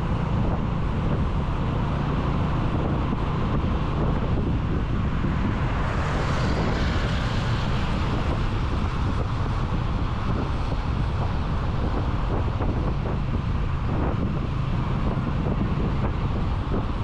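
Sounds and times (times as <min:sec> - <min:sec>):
traffic noise: 0:00.0 - 0:17.0
wind buffeting microphone: 0:00.0 - 0:17.0.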